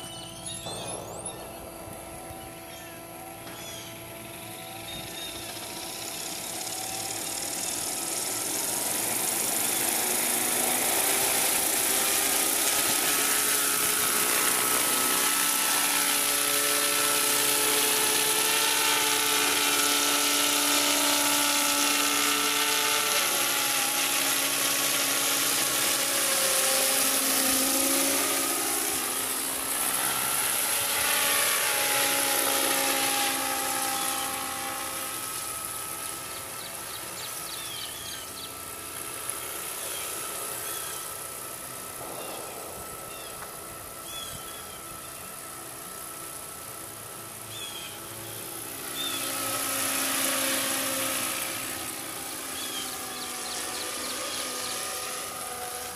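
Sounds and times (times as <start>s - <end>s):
rc helicopter motor whine: 0.0s - 55.9s.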